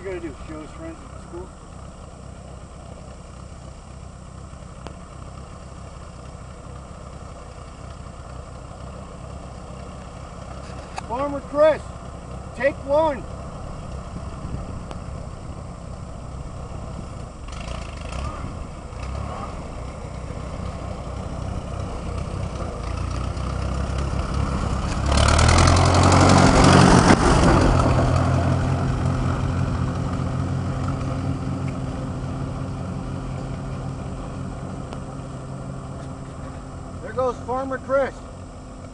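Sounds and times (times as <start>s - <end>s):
tractor engine driving past: 0.0s - 38.9s.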